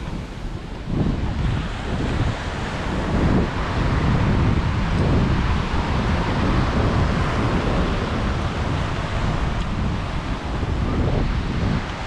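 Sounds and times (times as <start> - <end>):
ocean surf on a beach: 0.0 - 12.0
wind buffeting microphone: 0.0 - 12.0.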